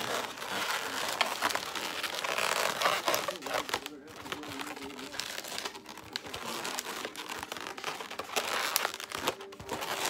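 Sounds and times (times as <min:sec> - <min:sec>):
balloons rubbing and crinkling: 0:00.0 - 0:10.0.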